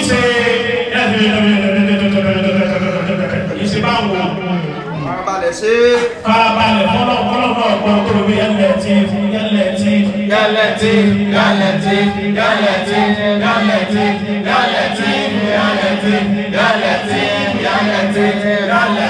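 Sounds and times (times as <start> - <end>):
man chanting over a pa: 0.0 - 4.6, 5.9 - 19.0.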